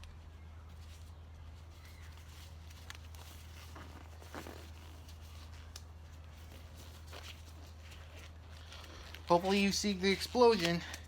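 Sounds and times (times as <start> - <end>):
faint handling noises: 0.0 - 11.0
rustling: 0.0 - 11.0.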